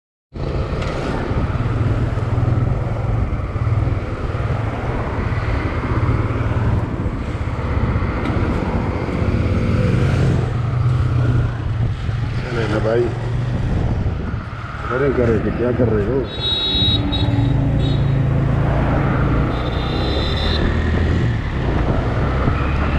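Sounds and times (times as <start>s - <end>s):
road and wind noise: 0.3s - 22.9s.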